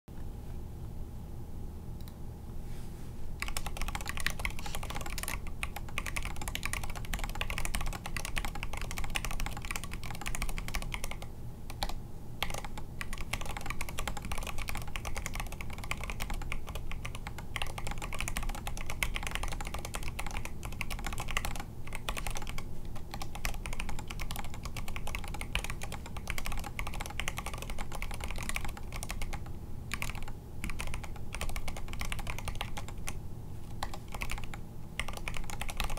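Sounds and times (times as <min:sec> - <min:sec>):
mechanical keyboard typing: 0:03.4 - 0:35.9.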